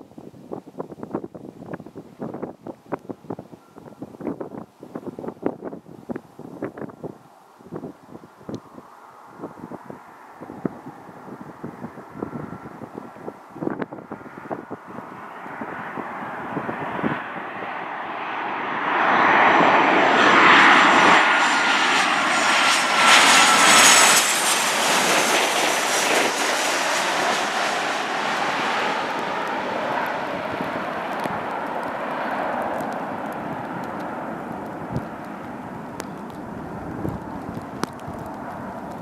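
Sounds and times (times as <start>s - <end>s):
jet airliner passing: 5.0s - 39.0s.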